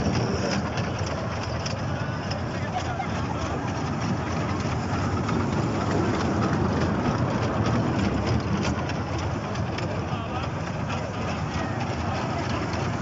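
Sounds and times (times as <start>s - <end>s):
train ride motor rumble: 0.0s - 13.0s
wheels clicking over rails: 0.0s - 13.0s.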